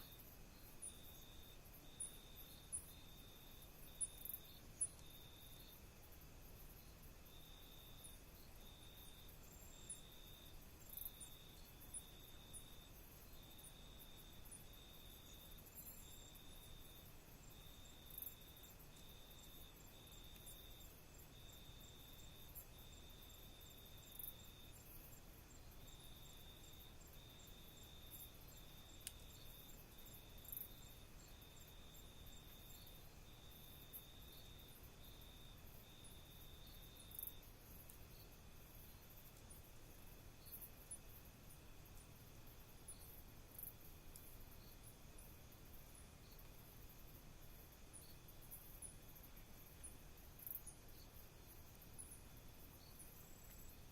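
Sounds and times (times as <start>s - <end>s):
background hiss: 0.0s - 53.9s.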